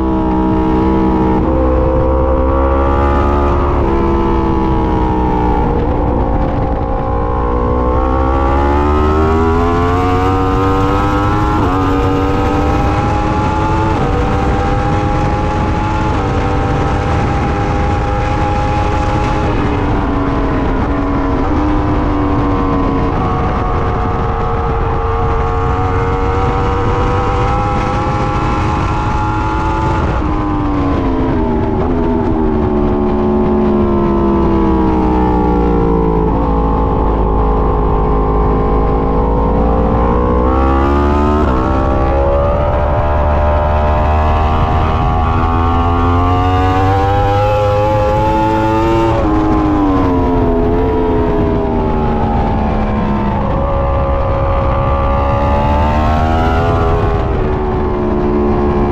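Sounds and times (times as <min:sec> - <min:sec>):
motorcycle engine at high revs: 0:00.0 - 0:58.9
wind rush: 0:00.0 - 0:58.9.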